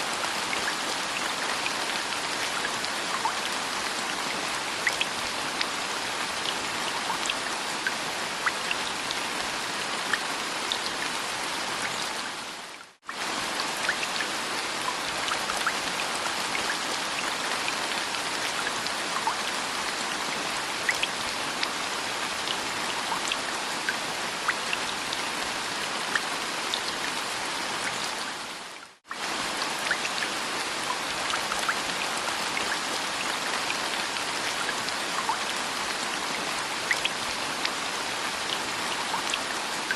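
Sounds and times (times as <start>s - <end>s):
rain drops ticking and pattering: 0.0s - 39.9s.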